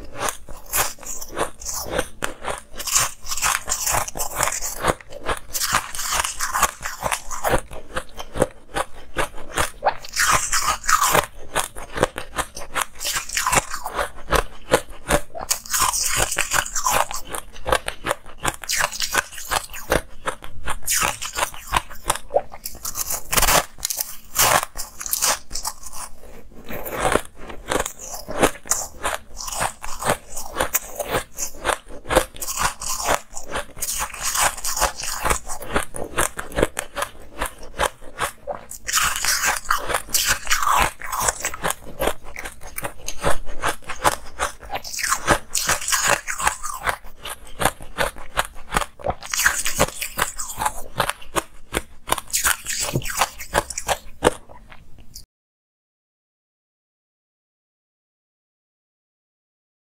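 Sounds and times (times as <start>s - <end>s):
ice crunching while chewed: 0.0s - 55.3s.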